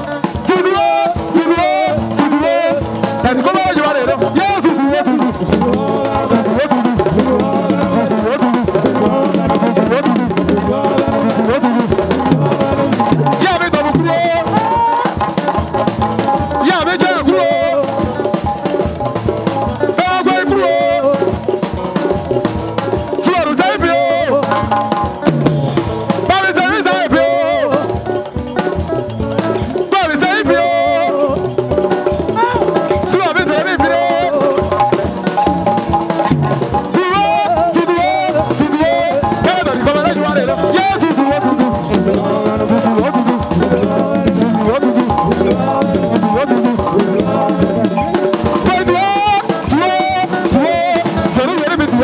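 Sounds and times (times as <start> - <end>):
drum kit: 0.0 - 52.0
live band music: 0.0 - 52.0.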